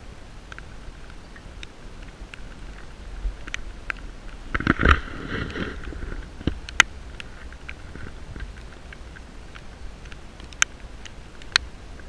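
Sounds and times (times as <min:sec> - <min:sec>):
raindrops tapping on camera: 0:00.0 - 0:12.0.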